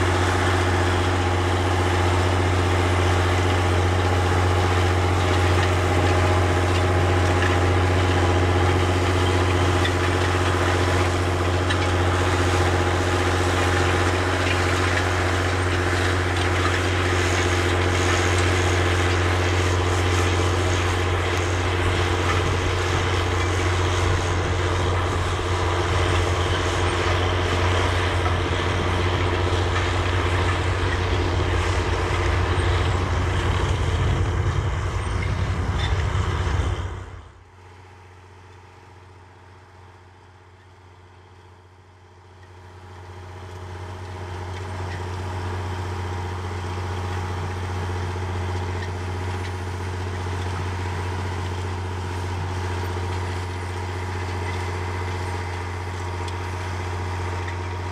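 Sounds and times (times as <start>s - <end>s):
diesel tractor engine under load: 0.0s - 57.9s.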